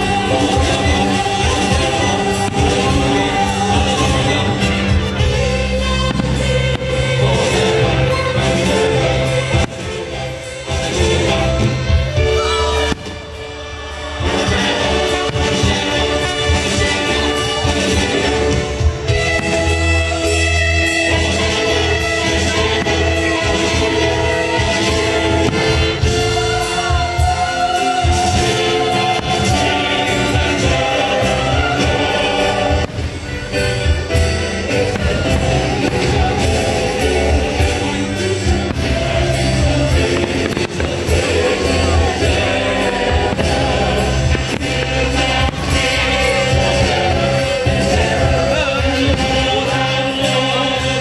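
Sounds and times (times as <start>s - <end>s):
choir singing with band: 0.0s - 51.0s.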